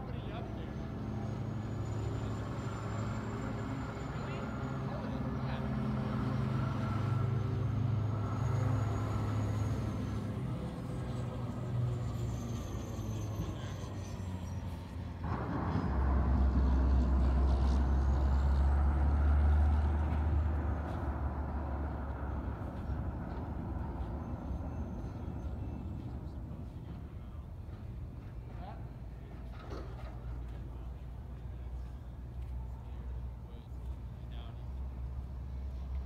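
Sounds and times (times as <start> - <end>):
heavy vehicle engine drone: 0.0 - 36.0.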